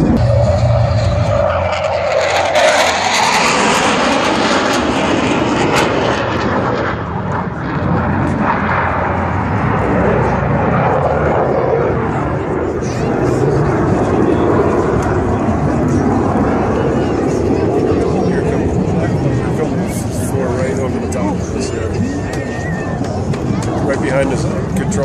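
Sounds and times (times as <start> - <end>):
jet flying past: 0.0 - 25.0.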